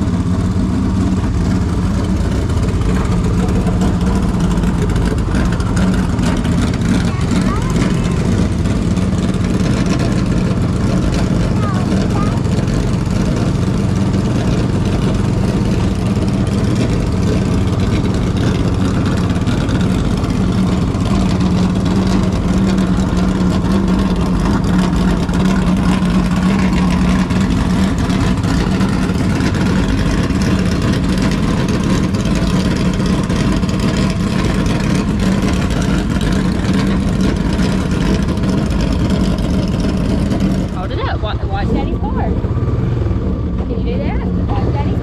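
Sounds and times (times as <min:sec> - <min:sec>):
vehicle engine droning steadily: 0:00.0 - 0:45.0.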